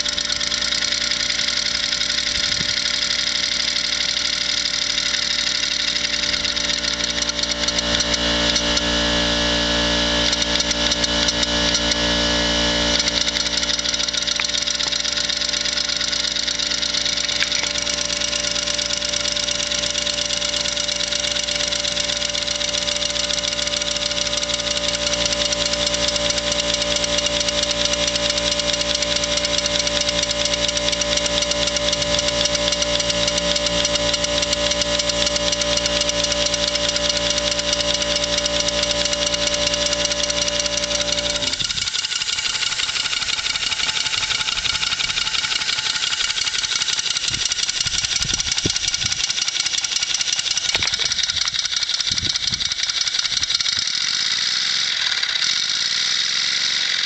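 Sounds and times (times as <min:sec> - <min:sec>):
model steam engine running: 0:00.0 - 0:57.0.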